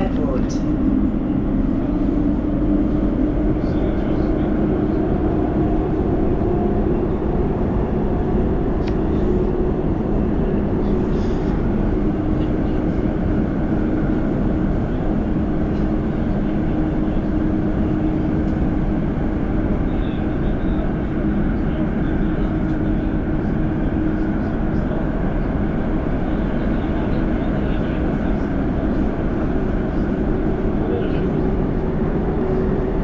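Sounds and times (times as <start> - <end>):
constant low hum: 0.0 - 33.0
train wheels rumbling on rail: 0.0 - 33.0.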